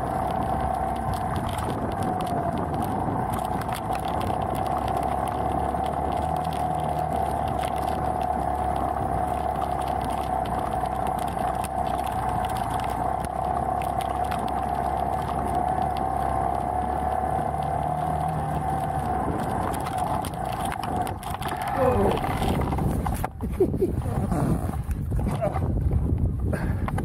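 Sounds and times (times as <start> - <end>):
small knocks from rough track: 0.0 - 23.8, 24.4 - 27.0
constant high hum: 0.0 - 27.0.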